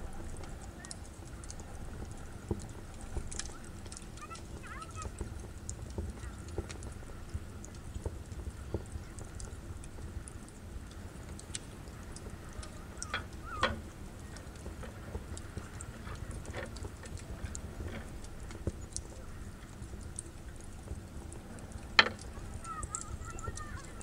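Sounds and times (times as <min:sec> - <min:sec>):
low background rumble: 0:00.0 - 0:24.0
wire grilling basket clicking: 0:00.0 - 0:24.0.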